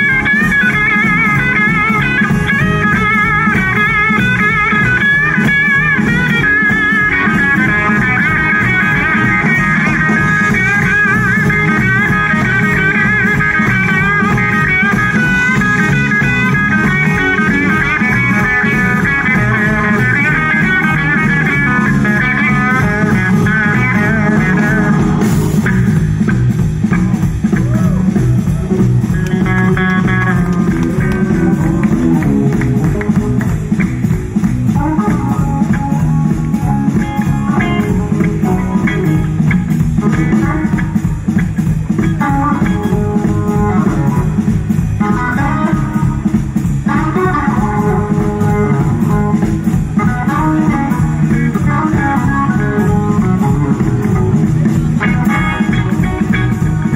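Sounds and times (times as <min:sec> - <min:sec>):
bass guitar: 0:00.0 - 0:56.9
drums: 0:00.0 - 0:56.9
electric guitar solo: 0:00.0 - 0:56.9
organ chords: 0:00.0 - 0:56.9.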